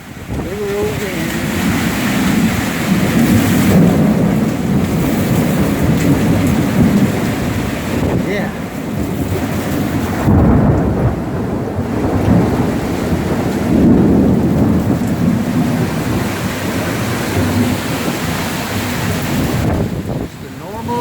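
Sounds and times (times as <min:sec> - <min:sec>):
heavy rain: 0:00.0 - 0:21.0
thunder rumbling: 0:00.0 - 0:21.0.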